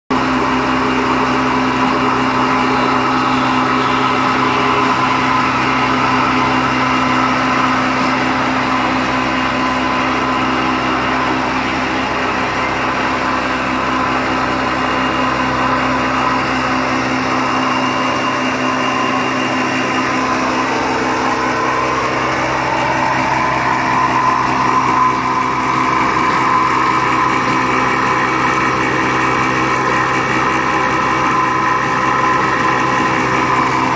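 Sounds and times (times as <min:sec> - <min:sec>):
machine whine: 0:00.1 - 0:33.9
milling machine humming: 0:00.1 - 0:33.9.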